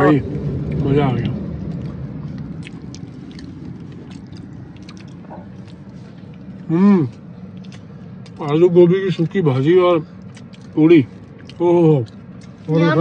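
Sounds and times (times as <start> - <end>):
car cabin hum: 0.0 - 13.0
chewing: 0.3 - 9.3, 10.0 - 13.0.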